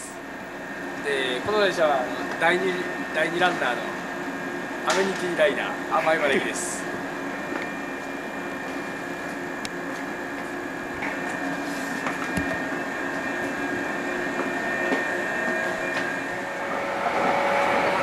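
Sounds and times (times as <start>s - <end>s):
electric train hum and whine: 0.0s - 18.0s.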